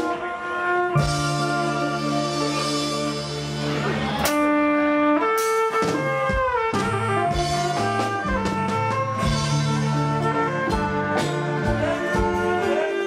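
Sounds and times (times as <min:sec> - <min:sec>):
drums: 0:00.0 - 0:13.0
horn-like lead melody: 0:00.0 - 0:13.0.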